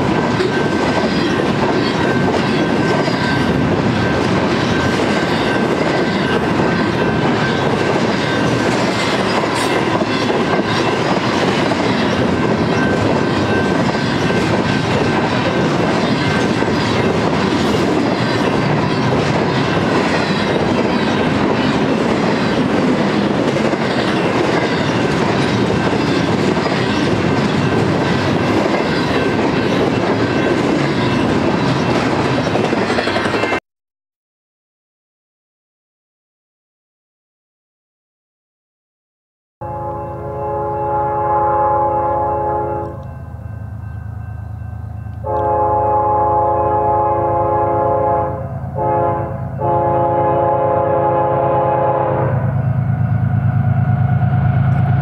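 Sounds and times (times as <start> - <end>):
freight train wheels rumbling: 0.0 - 33.6, 40.2 - 55.0.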